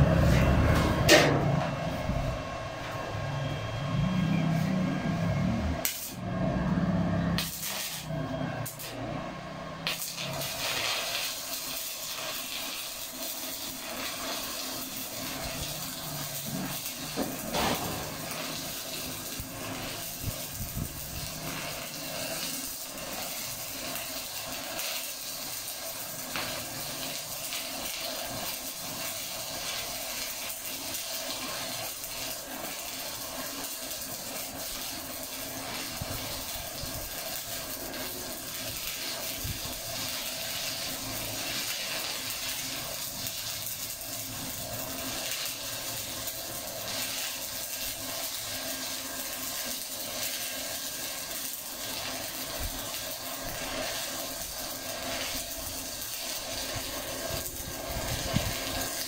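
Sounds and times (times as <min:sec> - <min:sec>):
welding arc crackling hiss: 0:00.0 - 0:59.0.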